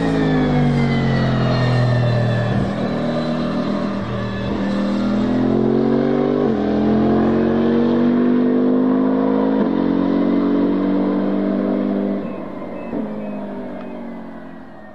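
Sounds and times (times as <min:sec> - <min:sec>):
race car engine accelerating: 0:00.0 - 0:14.9.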